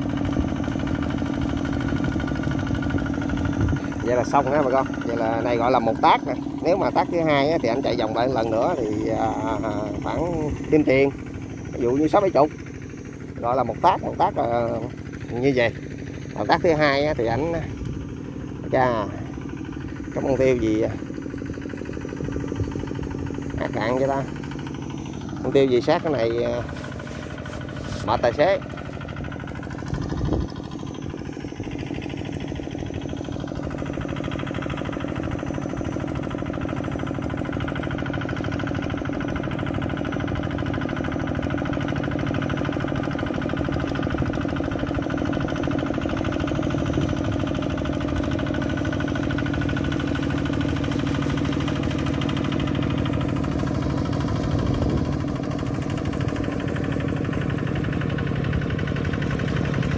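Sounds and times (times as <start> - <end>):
walking tractor engine running: 0.0 - 59.9.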